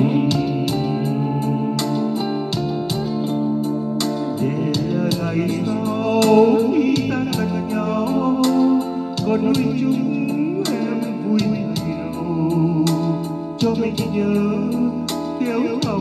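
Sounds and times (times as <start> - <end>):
guitar: 0.0 - 16.0
held chords: 0.0 - 16.0
light ticking beat: 0.0 - 16.0
person singing a ballad: 0.0 - 16.0.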